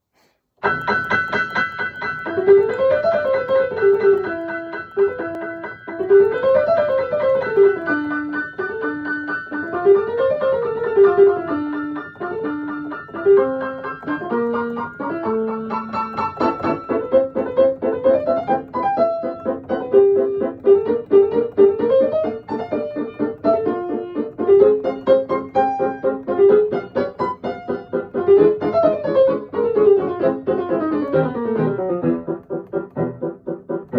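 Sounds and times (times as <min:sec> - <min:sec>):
solo piano piece: 0:00.0 - 0:33.9.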